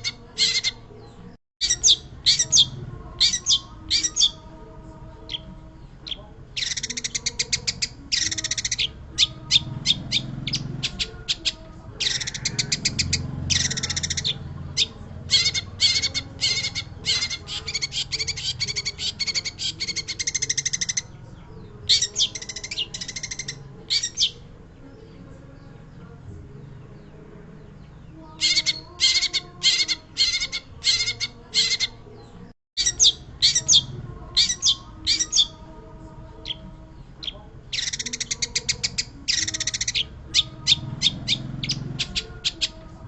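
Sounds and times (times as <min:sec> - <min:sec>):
bird singing chattering song: 0:00.0 - 0:43.0.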